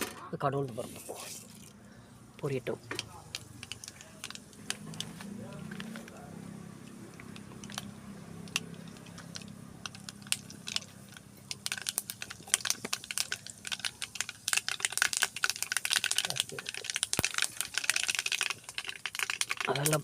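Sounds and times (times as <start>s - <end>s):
lentils frying in hot oil: 2.4s - 20.0s.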